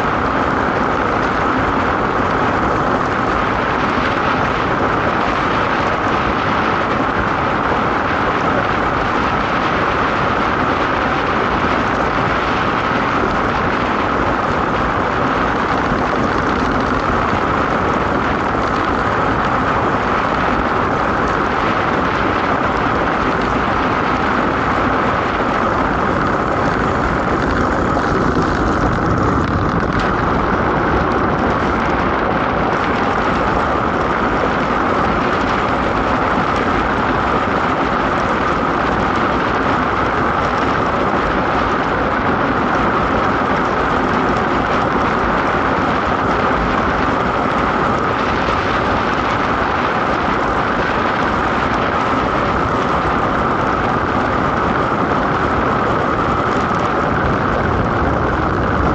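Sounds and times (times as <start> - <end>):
rushing wind: 0.0 - 58.9.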